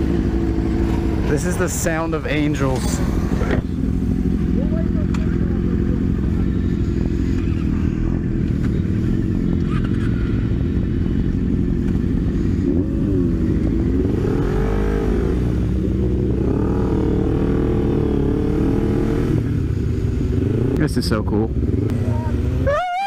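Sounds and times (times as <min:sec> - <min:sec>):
motorbike engines revving: 0:00.0 - 0:23.0.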